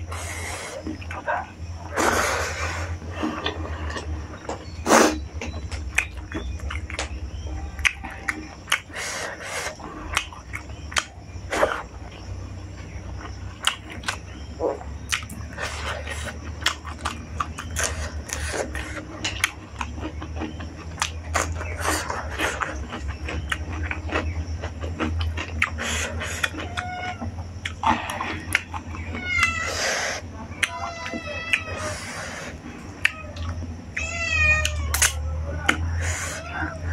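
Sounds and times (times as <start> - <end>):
chewing with wet mouth smacks: 0.0 - 30.8
low hum: 0.0 - 36.9.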